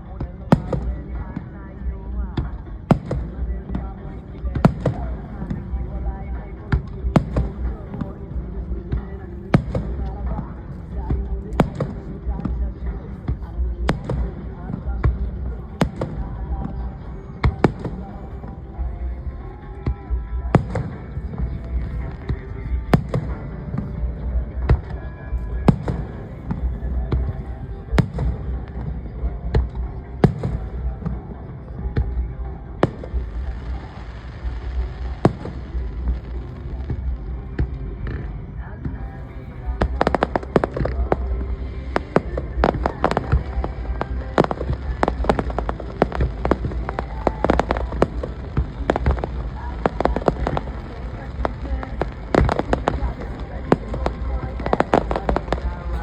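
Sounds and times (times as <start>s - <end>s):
steady low rumble: 0.0s - 56.0s
fireworks bangs: 0.1s - 56.0s.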